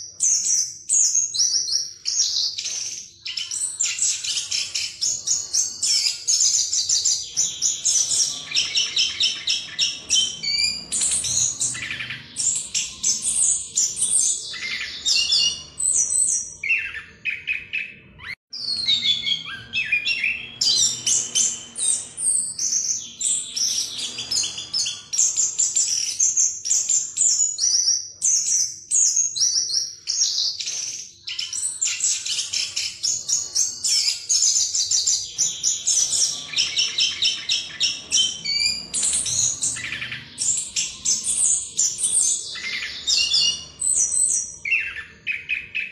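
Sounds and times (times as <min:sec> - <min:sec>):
thrush singing trills and whistles: 0:00.0 - 0:45.9.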